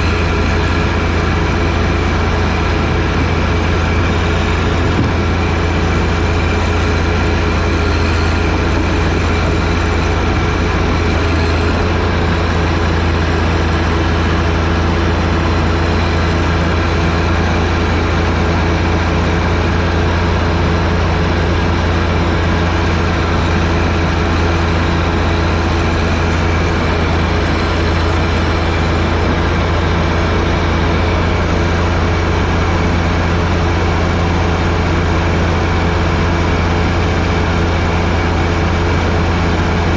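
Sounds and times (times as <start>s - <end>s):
tractor diesel engine humming: 0.0s - 39.9s.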